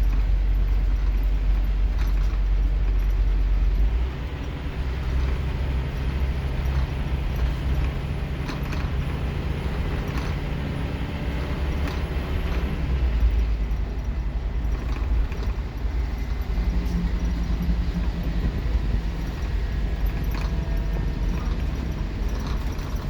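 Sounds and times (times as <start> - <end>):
bus body rattles: 0.0 - 23.0
bus diesel engine pulling hard: 0.0 - 23.0.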